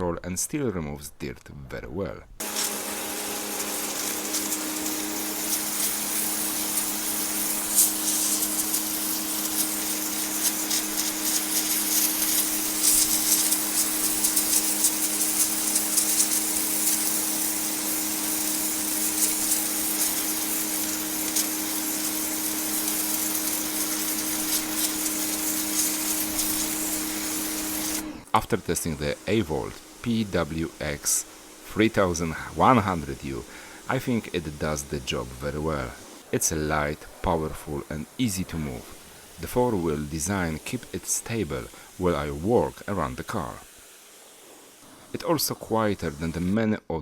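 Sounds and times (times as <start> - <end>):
pressure washer pump humming: 2.4 - 46.6
water jet hissing on concrete: 2.4 - 46.6.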